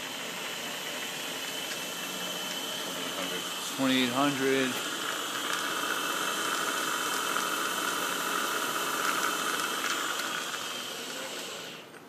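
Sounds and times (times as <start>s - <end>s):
mill spindle whirring: 0.0s - 12.0s.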